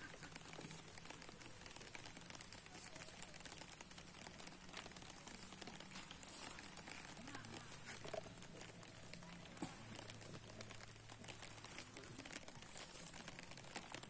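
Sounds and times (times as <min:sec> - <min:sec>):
light rain pattering: 0:00.0 - 0:14.0.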